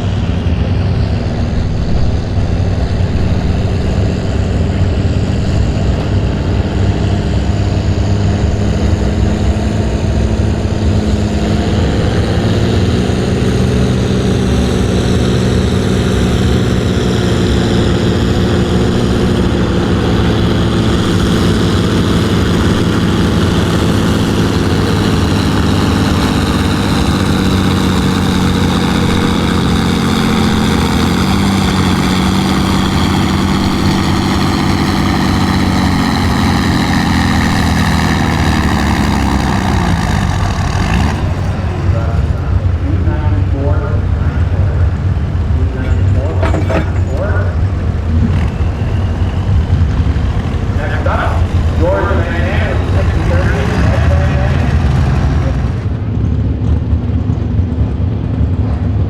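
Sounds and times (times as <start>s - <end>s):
tractor engine running hard: 0.0s - 59.0s.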